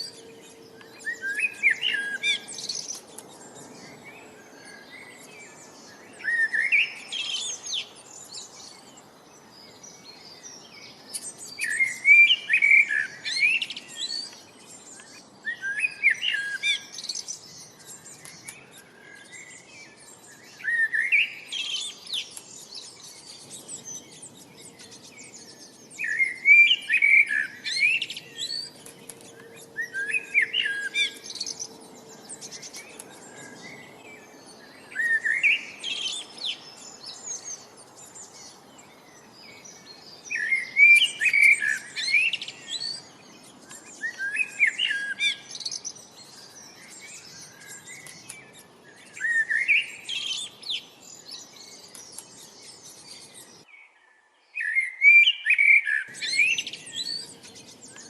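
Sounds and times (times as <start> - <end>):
songbird chirps and trills: 0.0 - 58.0.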